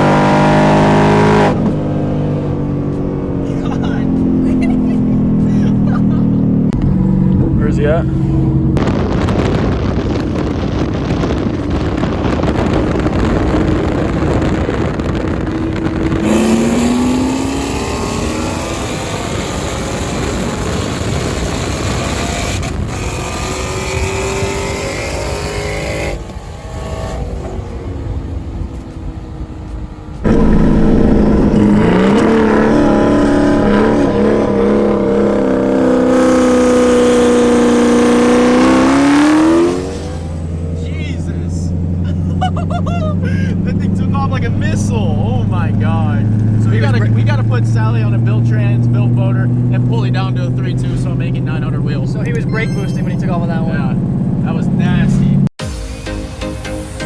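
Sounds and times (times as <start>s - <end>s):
car engines accelerating: 0.0s - 55.5s.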